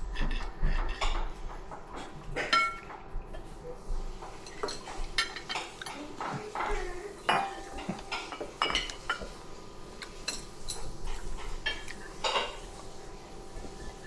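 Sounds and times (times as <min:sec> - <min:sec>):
utensils clinking on plates: 0:00.0 - 0:14.0.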